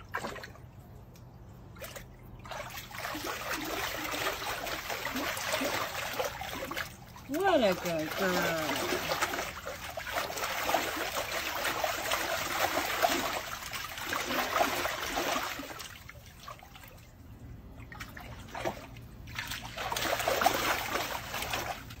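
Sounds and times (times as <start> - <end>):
dog splashing in water: 1.7 - 17.2, 17.8 - 22.0.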